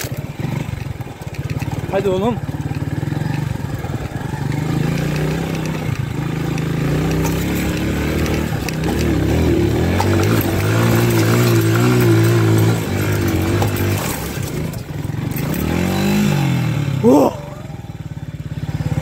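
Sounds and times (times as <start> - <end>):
motorcycle engine under load: 0.0 - 19.0.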